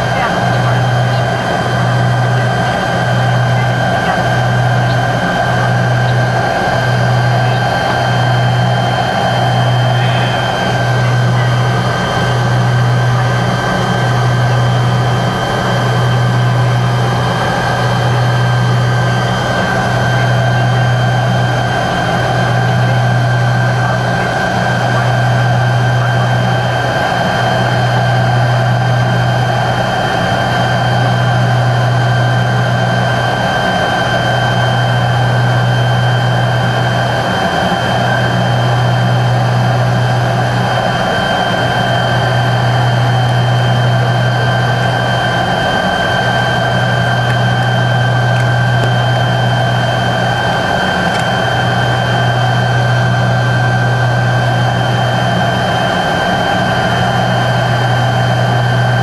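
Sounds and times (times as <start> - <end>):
high engine whine: 0.0 - 59.0
jet engines droning: 0.0 - 59.0.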